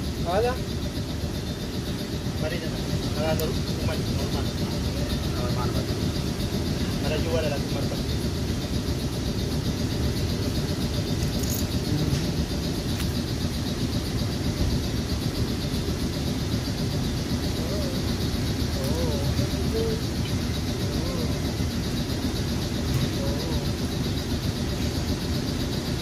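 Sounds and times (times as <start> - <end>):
steady low rumble: 1.9 - 24.1.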